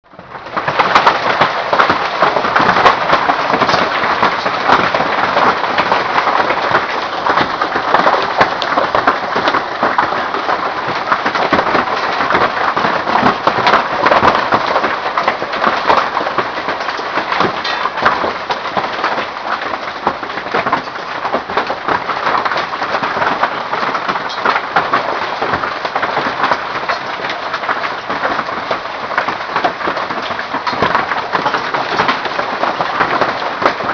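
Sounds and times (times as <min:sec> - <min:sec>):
hail pelting down: 0:00.1 - 0:33.9.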